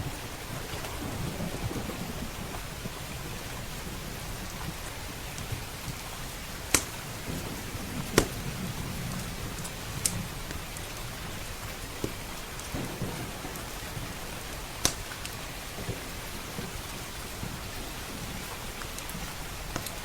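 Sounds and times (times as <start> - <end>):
low thunder rumbling: 0.0 - 20.0
steady rain: 0.0 - 20.0
wood fire popping: 0.1 - 20.0.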